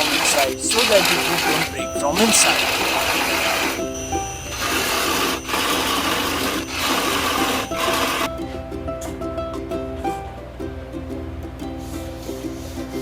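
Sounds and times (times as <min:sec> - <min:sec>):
background music: 0:00.0 - 0:10.6.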